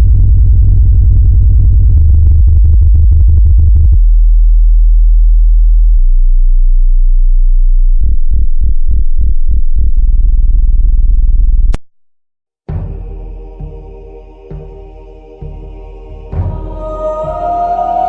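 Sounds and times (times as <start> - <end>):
synthesized deep bass tones: 0.0 - 11.8, 12.7 - 18.0.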